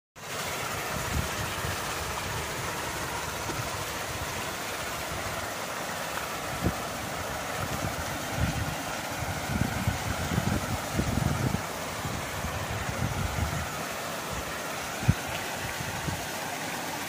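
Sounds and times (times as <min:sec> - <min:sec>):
paddle wheels splashing water: 0:00.2 - 0:17.0.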